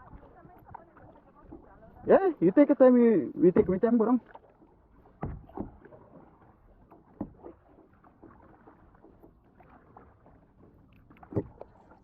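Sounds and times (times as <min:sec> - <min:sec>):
kayak knocks: 0:00.0 - 0:02.6, 0:03.2 - 0:12.0
paddle splashing water: 0:00.0 - 0:12.0.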